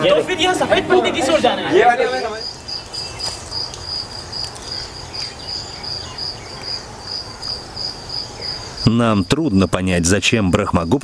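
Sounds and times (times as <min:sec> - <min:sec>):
cricket chirping: 0:01.7 - 0:11.0.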